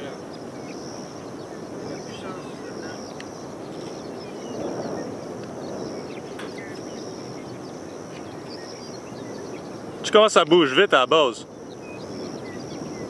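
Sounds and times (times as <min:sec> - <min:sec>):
birds chirping faintly: 0:00.0 - 0:13.0
wind rushing over microphone: 0:00.0 - 0:13.0.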